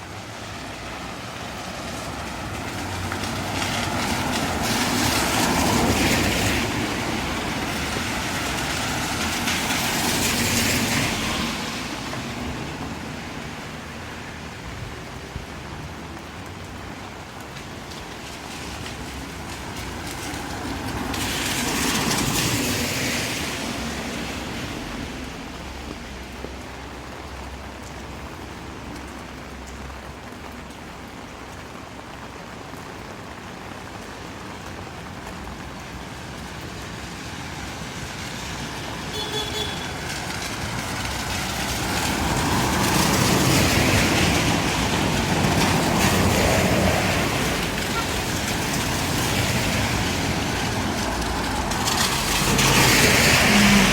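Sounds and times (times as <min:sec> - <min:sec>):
tyre hiss on wet street: 0:00.0 - 0:53.9.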